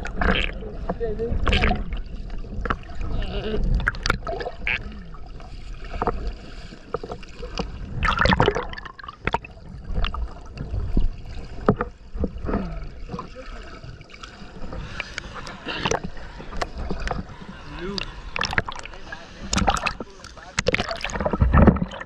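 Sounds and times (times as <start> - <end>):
rush of water: 0.0 - 22.0
underwater gurgling and sloshing: 0.0 - 22.0.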